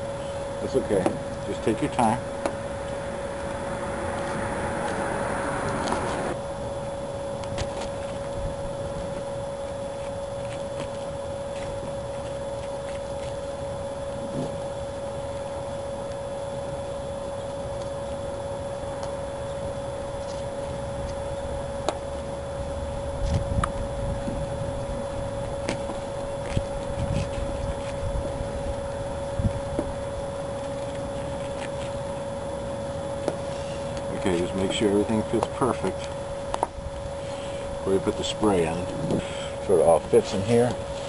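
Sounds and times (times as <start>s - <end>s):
steady hum with low rumble: 0.0s - 41.0s.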